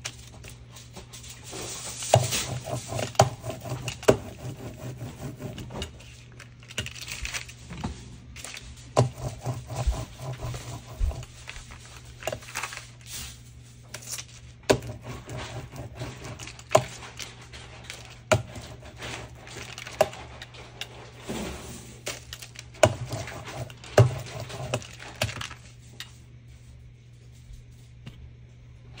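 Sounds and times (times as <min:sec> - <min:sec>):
paper and plastic rustling: 0:00.0 - 0:03.2, 0:05.8 - 0:28.0
steady low hum: 0:00.0 - 0:29.0.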